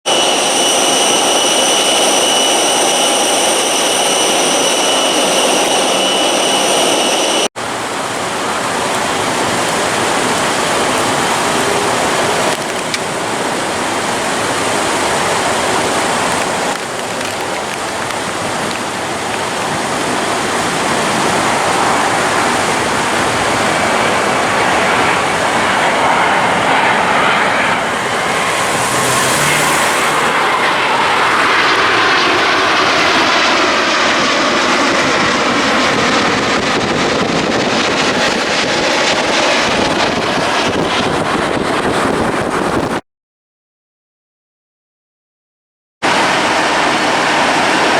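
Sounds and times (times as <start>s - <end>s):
jet engine roar: 0.0s - 43.0s, 46.0s - 47.9s
jet engine whine: 0.0s - 43.0s, 46.0s - 47.9s.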